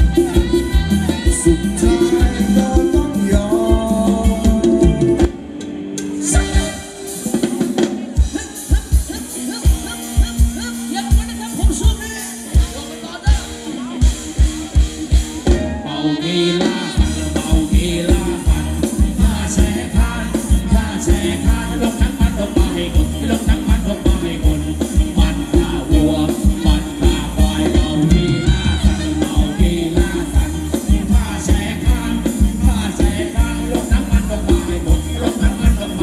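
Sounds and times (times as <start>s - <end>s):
drum kit beat: 0.0s - 36.0s
live band dance music: 0.0s - 36.0s
person singing: 0.0s - 36.0s.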